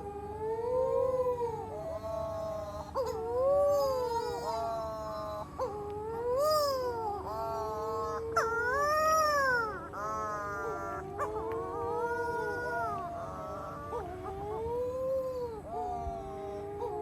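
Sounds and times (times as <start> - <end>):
seabirds wailing: 0.0 - 17.0.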